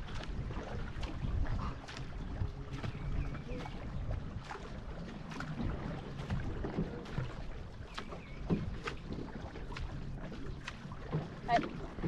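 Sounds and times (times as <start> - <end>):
paddle blades splashing: 0.0 - 12.0
water rushing: 0.0 - 12.0
wind: 0.0 - 12.0.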